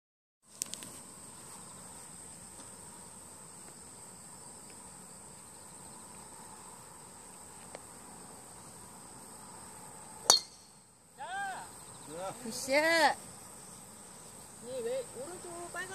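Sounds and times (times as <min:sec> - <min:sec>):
insects chirring: 0:00.5 - 0:15.9.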